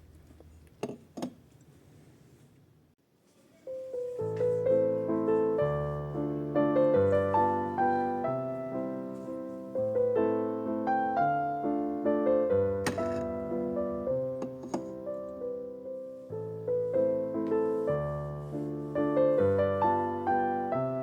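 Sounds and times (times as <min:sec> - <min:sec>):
gentle slow piano music: 0:03.5 - 0:21.0.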